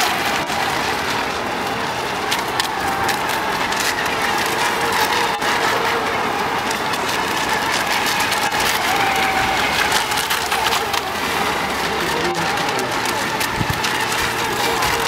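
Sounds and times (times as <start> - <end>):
model boat motor whine: 0.0 - 15.0
rush of water spray: 0.0 - 15.0.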